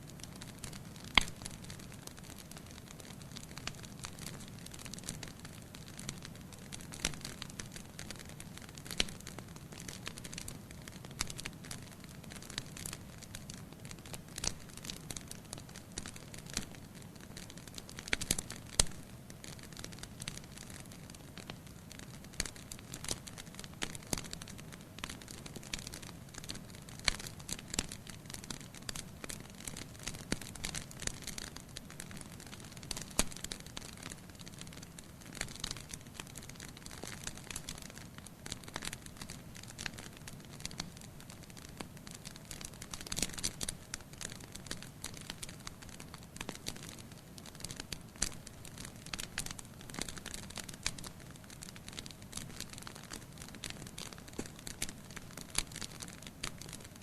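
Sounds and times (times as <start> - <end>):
firewood crackling and popping: 0.1 - 57.0.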